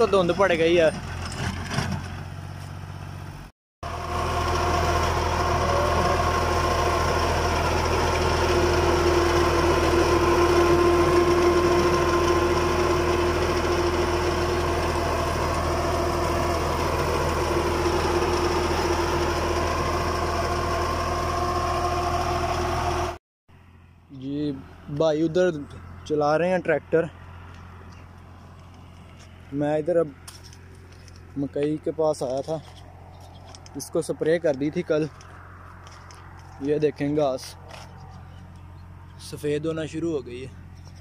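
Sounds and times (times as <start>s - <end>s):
tractor engine under load: 0.0s - 41.0s.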